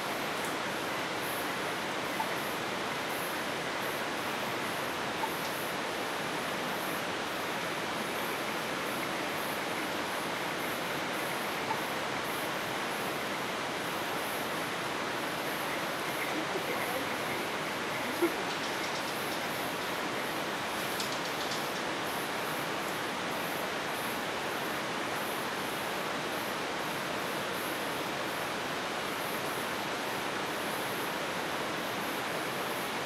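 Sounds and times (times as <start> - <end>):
night forest ambience hiss: 0.0 - 33.0.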